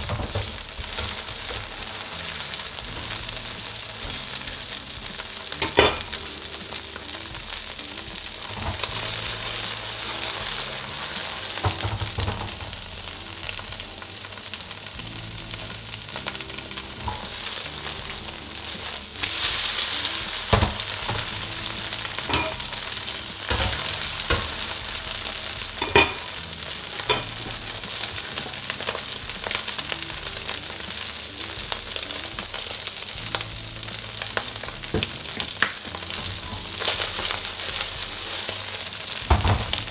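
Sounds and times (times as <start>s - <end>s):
noodles sizzling in a wok: 0.0s - 39.9s.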